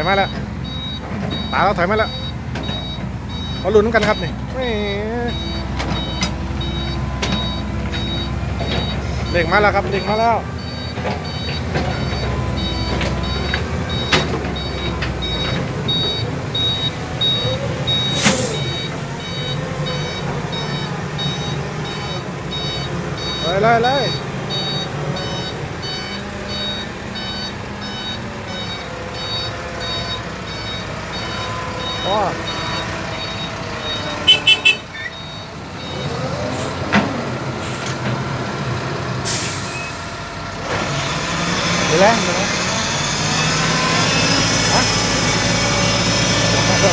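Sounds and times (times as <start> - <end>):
reversing alarm beeping: 0.0 - 4.4, 5.2 - 36.8, 41.6 - 46.9
diesel engine running: 0.0 - 46.9.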